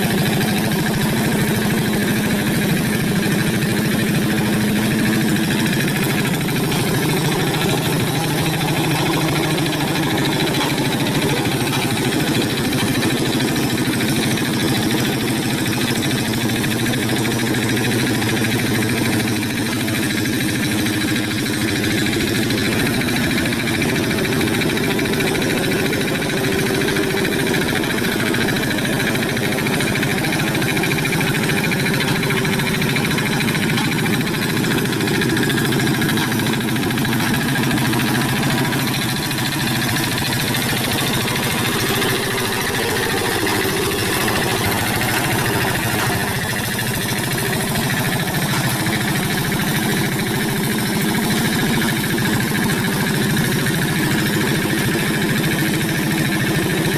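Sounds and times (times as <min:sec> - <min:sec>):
diesel engine chugging: 0:00.0 - 0:56.9.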